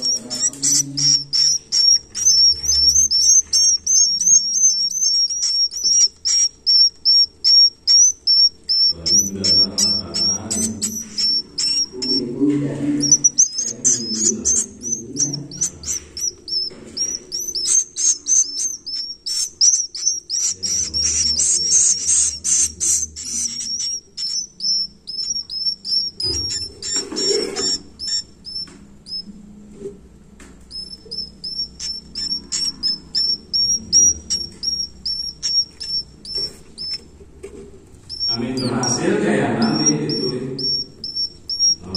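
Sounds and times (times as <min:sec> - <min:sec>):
chicks chirping: 0:00.0 - 0:29.3, 0:30.6 - 0:37.2, 0:37.9 - 0:41.9.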